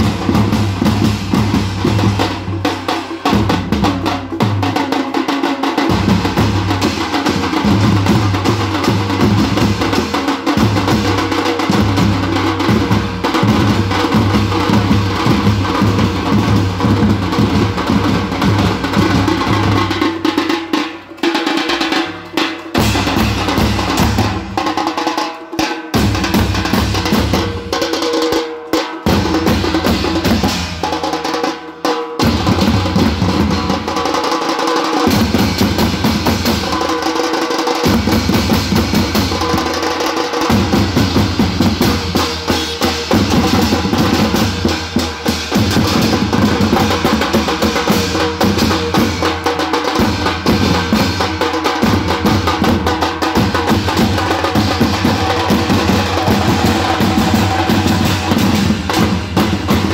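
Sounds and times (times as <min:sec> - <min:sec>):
bass drums beaten in fast rhythm: 0:00.0 - 0:25.0, 0:25.6 - 0:59.9
side drums beaten with sticks: 0:00.0 - 0:59.9.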